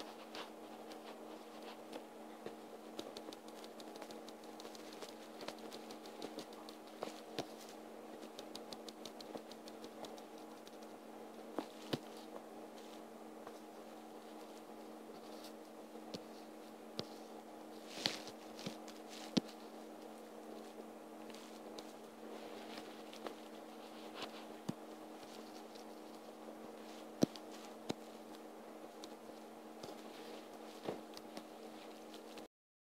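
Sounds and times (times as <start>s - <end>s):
steady low hum: 0.0s - 32.5s.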